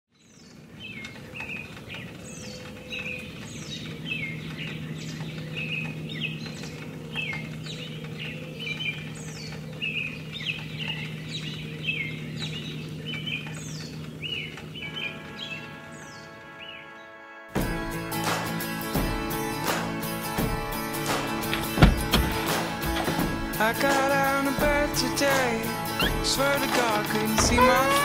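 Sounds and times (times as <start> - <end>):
songbirds singing and calling: 0.1 - 17.2, 18.8 - 28.0.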